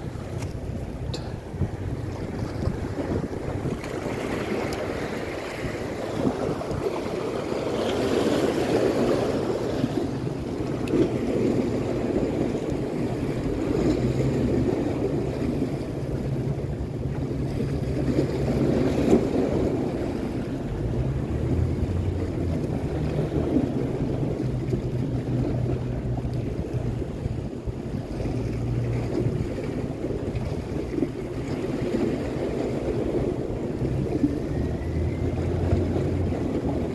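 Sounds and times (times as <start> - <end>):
low engine drone: 0.0 - 36.9
waves washing against rocks: 0.0 - 36.9
wind on microphone: 0.0 - 36.9.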